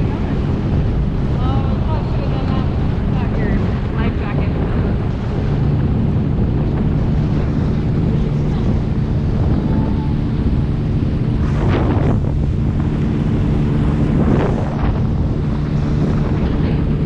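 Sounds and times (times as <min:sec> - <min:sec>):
outboard motor droning: 0:00.0 - 0:17.0
water rushing along hull: 0:00.0 - 0:17.0
wind buffeting microphone: 0:00.0 - 0:17.0.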